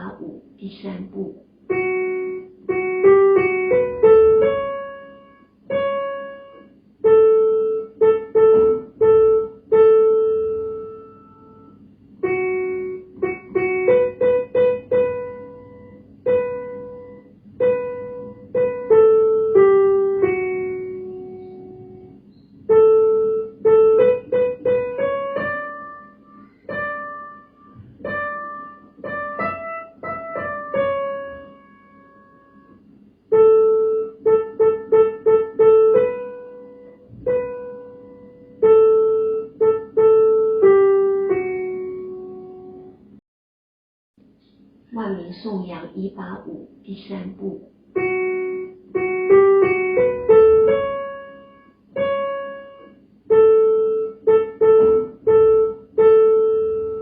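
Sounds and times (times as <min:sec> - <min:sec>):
piano playing slow hymn: 0:01.6 - 0:43.2, 0:47.9 - 0:57.0.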